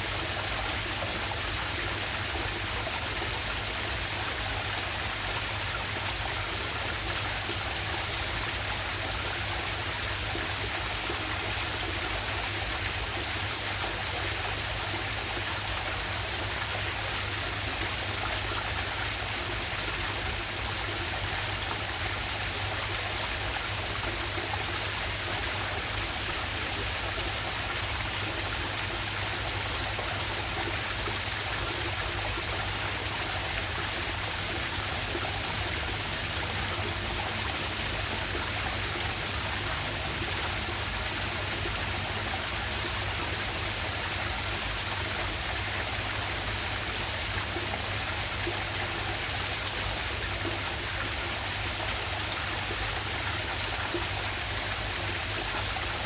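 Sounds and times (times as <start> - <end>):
waterfall water rushing: 0.0 - 56.0.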